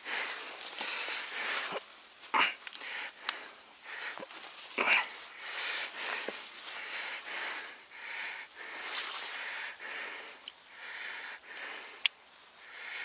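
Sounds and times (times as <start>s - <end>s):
man breathing steadily: 0.0s - 13.0s.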